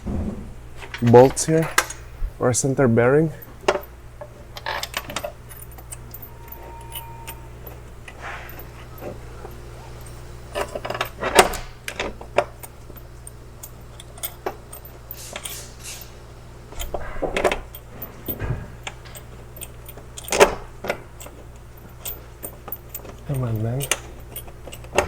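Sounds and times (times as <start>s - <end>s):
metal clinks of bolts and tools: 0.9s - 2.2s, 3.1s - 25.0s.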